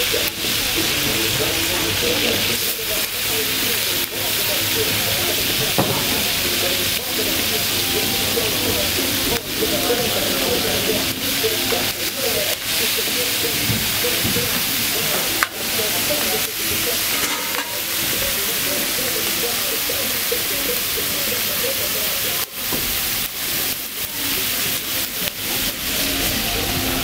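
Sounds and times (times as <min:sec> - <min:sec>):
background voices: 0:00.0 - 0:27.0
food sizzling in a pan: 0:00.0 - 0:27.0.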